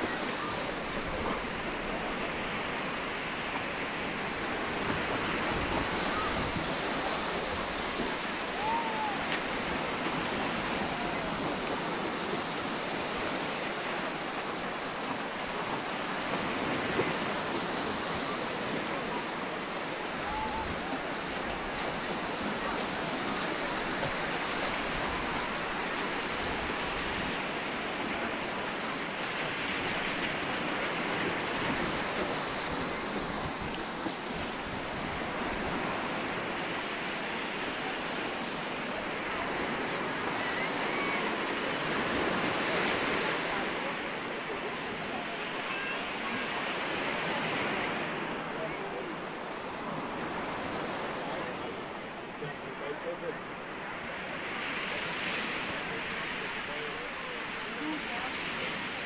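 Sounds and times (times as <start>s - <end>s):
faint voices: 0.0s - 59.0s
sea surf breaking on sand: 0.0s - 59.0s.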